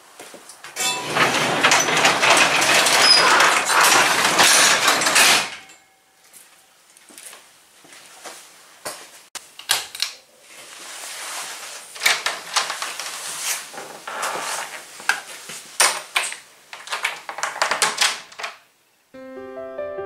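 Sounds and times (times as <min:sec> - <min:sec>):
rustling and movement: 0:00.0 - 0:09.4, 0:10.2 - 0:17.6.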